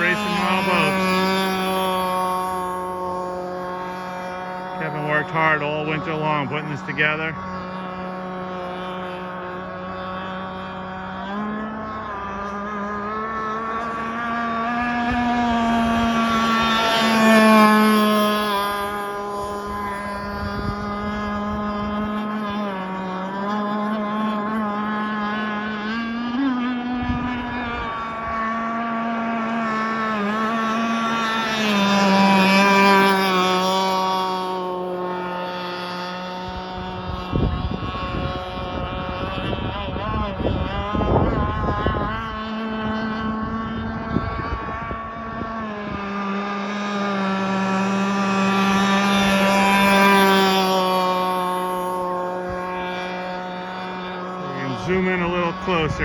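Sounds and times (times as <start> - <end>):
model boat engine running: 0.0 - 56.0.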